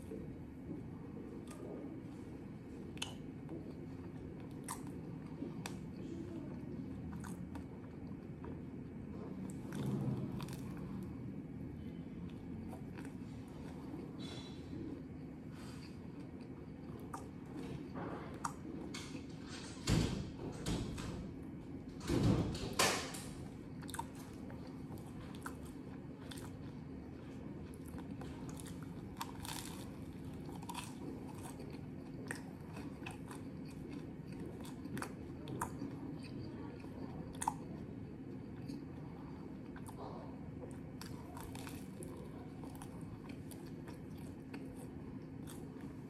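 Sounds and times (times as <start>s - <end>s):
person chewing crunchy sandwich: 0.0s - 19.3s, 23.4s - 46.0s
low steady hum: 0.0s - 46.0s.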